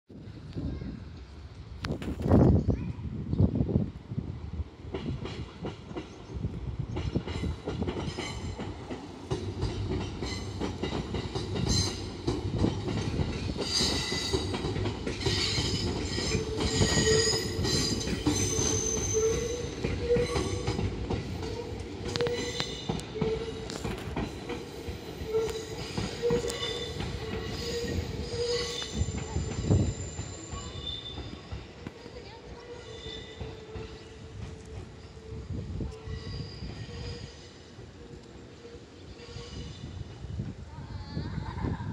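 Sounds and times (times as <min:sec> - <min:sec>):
train wheels rumbling on track: 0:00.2 - 0:41.9
train clattering: 0:04.8 - 0:39.9.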